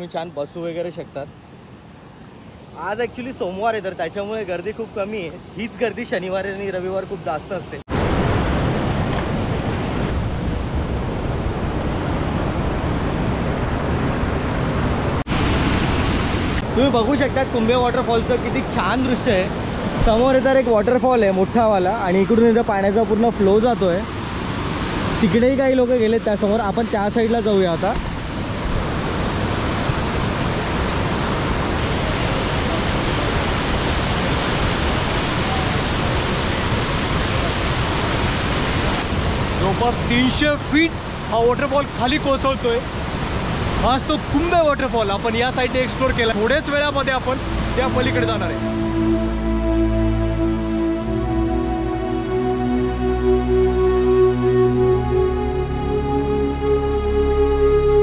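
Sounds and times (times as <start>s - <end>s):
waterfall roaring: 0.7s - 49.8s.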